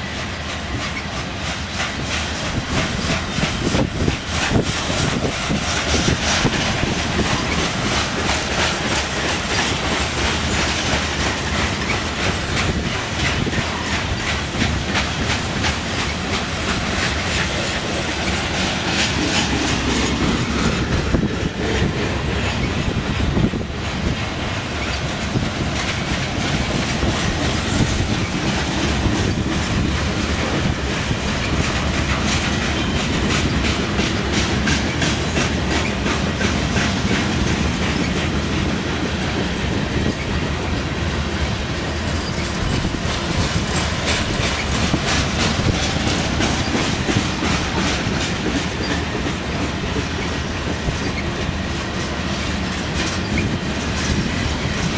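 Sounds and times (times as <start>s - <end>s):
train wheels rumbling on rails: 0.0s - 54.9s
wheels clickety-clack on rail joints: 0.0s - 54.9s.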